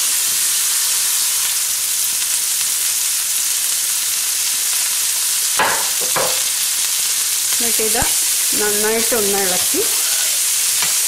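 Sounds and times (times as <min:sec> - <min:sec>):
okra sizzling in hot oil: 0:00.0 - 0:11.0.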